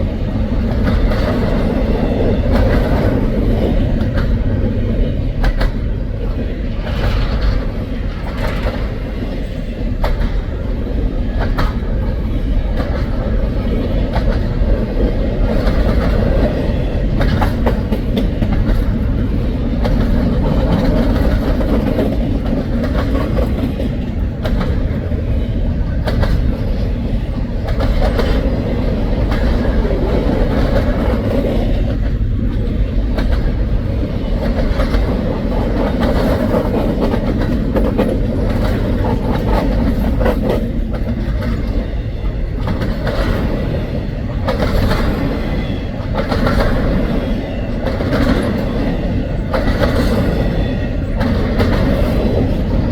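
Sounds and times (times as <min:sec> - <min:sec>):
freight train rolling past: 0:00.0 - 0:52.9.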